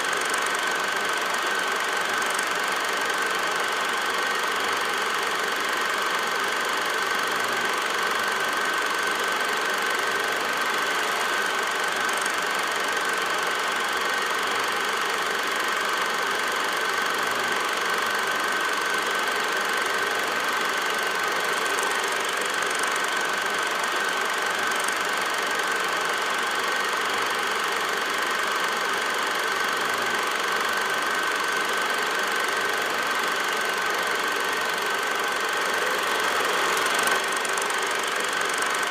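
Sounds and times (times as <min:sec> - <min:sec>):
mechanical running noise: 0:00.0 - 0:38.9.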